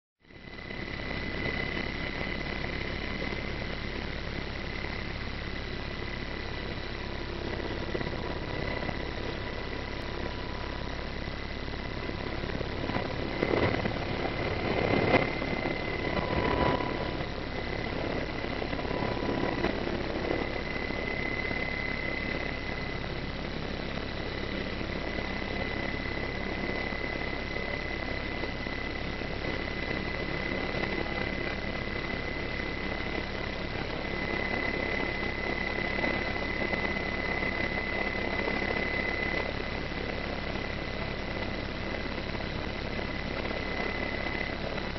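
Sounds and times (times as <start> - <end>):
helicopter engines and rotor: 0.2 - 44.9.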